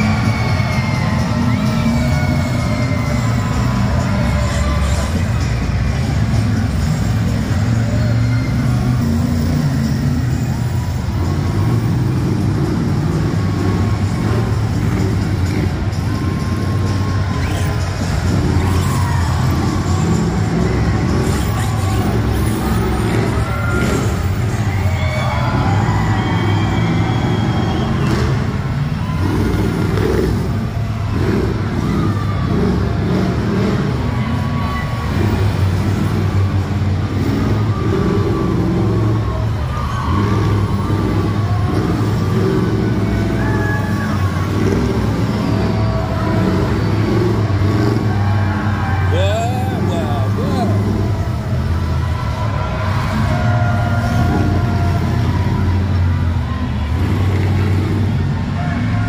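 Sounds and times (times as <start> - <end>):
large vehicle engines rumbling: 0.0 - 59.0.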